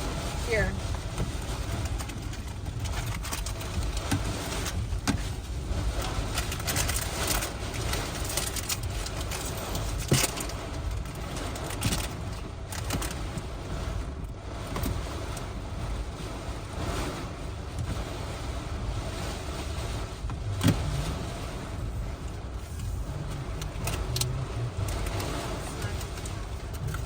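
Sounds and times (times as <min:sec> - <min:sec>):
wind and rain roaring: 0:00.0 - 0:27.0
wind rumbling on microphone: 0:00.0 - 0:27.0.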